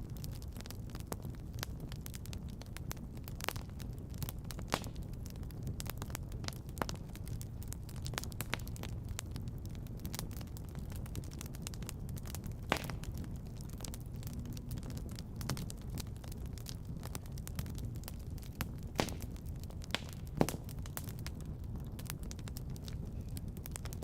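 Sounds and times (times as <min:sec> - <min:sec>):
wood fire crackling and popping: 0:00.0 - 0:24.0
steady low rumble: 0:00.1 - 0:24.0.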